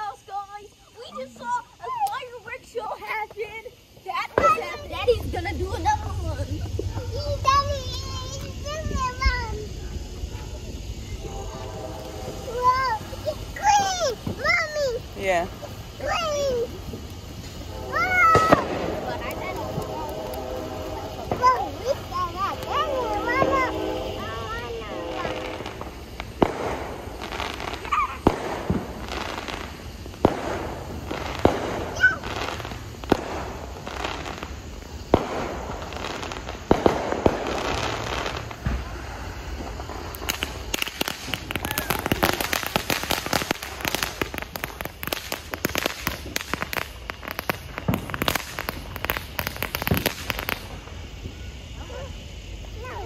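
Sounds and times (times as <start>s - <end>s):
fireworks bangs and booms: 0.0s - 53.0s
fireworks crackling pops: 0.0s - 53.0s.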